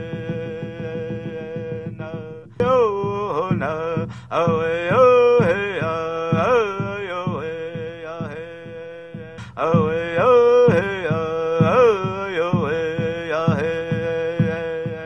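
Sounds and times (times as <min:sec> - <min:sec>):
person chanting: 0:00.0 - 0:15.0
steady drumbeat: 0:00.0 - 0:15.0.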